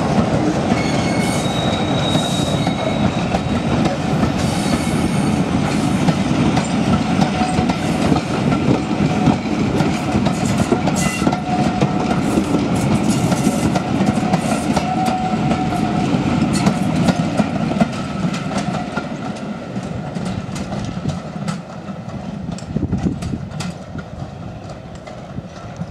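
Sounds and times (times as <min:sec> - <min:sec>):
train coaches rumbling past: 0:00.0 - 0:25.9
wheels clicking over rail joints: 0:00.0 - 0:25.9.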